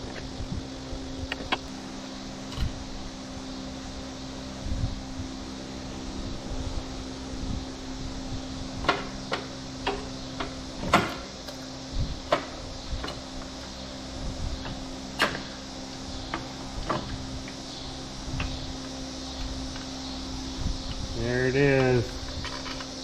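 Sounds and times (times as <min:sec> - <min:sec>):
fan hum: 0:00.0 - 0:23.0.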